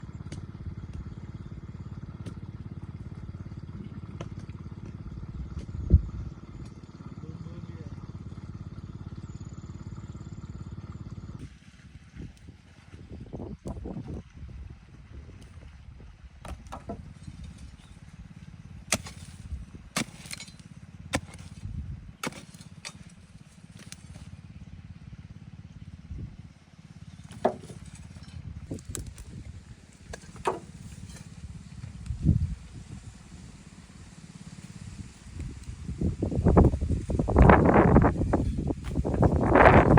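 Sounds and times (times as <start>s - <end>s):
small engine putter: 0.0s - 13.0s, 15.1s - 39.9s.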